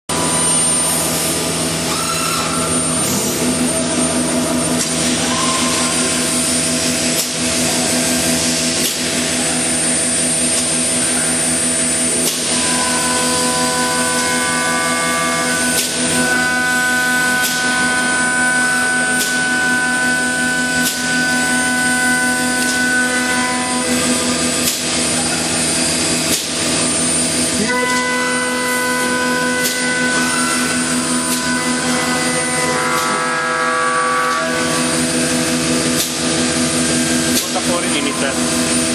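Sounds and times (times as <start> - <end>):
woodworking machine whining: 0.1 - 38.9.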